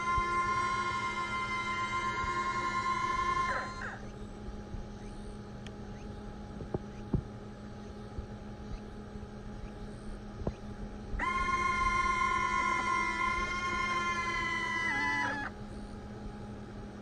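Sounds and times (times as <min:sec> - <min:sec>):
landing gear motors whining: 0:00.0 - 0:16.2
low steady hum: 0:00.0 - 0:17.0.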